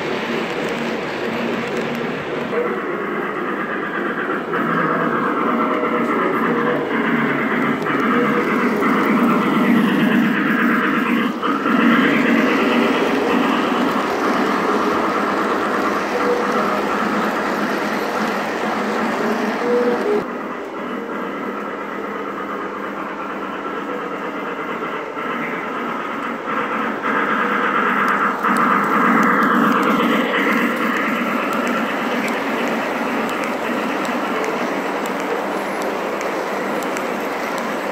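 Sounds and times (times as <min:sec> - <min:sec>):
model train rumbling on track: 0:00.0 - 0:37.9.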